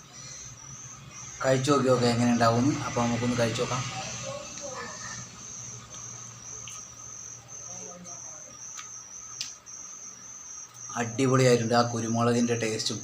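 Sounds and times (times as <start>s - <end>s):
cricket chirping trill: 0.0s - 13.0s.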